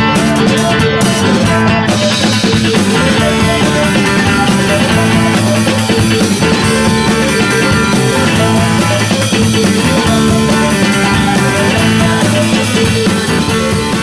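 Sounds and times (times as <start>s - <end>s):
instrumental rock music: 0.0s - 14.0s.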